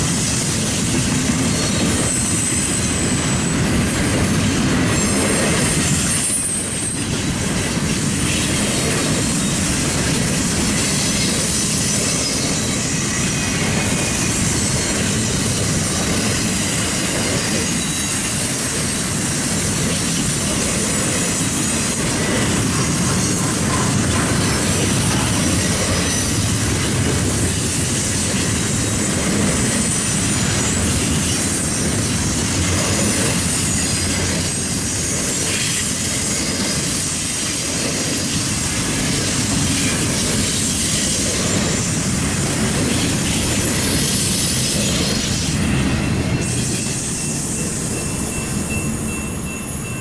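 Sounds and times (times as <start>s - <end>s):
rail joints clickety-clack: 0.0s - 50.0s
train wheels on rails: 0.0s - 50.0s.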